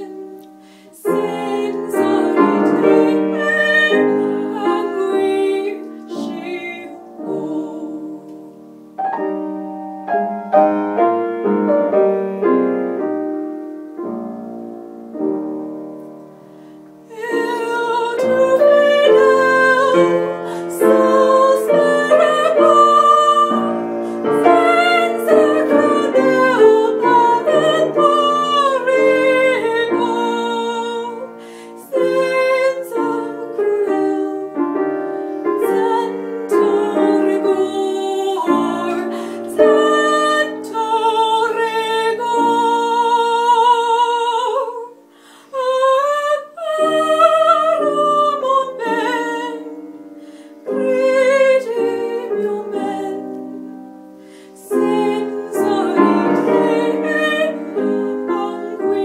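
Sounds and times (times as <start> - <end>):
woman singing with vibrato: 0.0 - 8.8, 17.0 - 49.8, 50.6 - 53.5, 54.6 - 59.0
piano accompaniment: 0.0 - 59.0.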